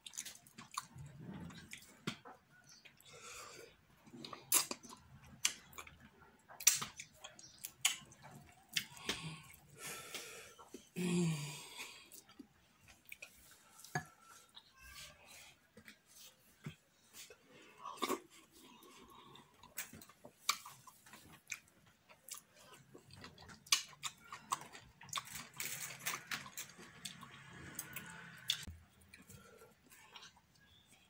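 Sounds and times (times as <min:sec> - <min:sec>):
chewing and lip-smacking: 0:00.0 - 0:11.0, 0:12.0 - 0:14.7, 0:15.8 - 0:31.0.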